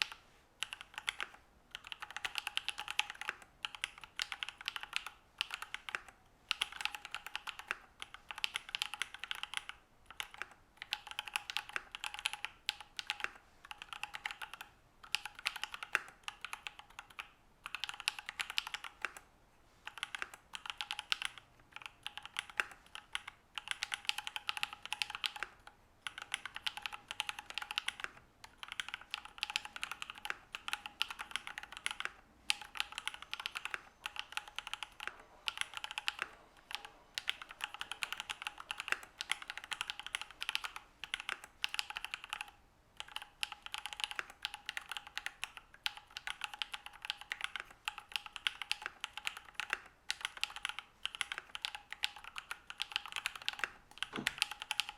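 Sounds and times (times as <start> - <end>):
mechanical keyboard typing: 0.0 - 19.2, 19.8 - 54.9.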